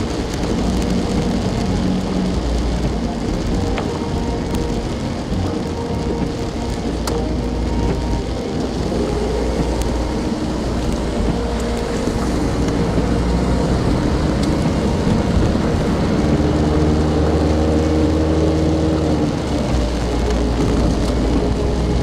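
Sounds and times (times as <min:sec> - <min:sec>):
road noise rumble: 0:00.0 - 0:22.0
vehicle engine humming: 0:00.0 - 0:22.0.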